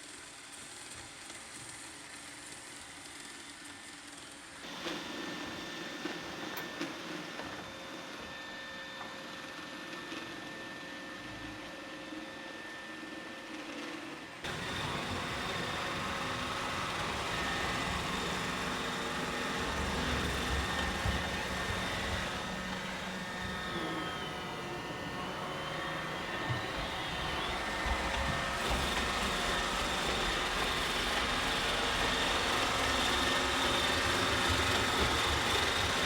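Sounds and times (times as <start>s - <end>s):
robot vacuum whirring: 1.2s - 36.0s.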